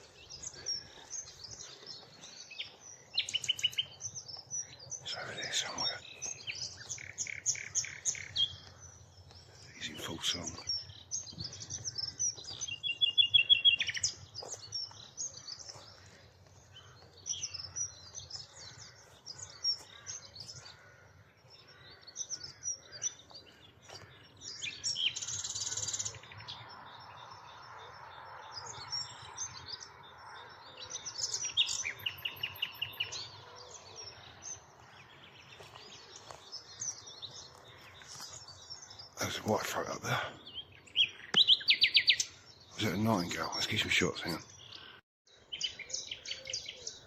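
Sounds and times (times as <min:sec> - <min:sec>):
nightingale singing: 0:00.0 - 0:20.8, 0:21.4 - 0:47.0
other songbirds singing: 0:00.0 - 0:47.0.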